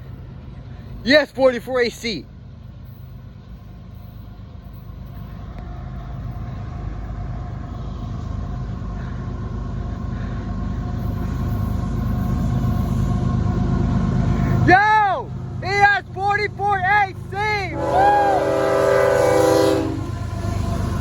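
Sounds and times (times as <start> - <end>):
locomotive engine rumble: 0.0 - 21.0.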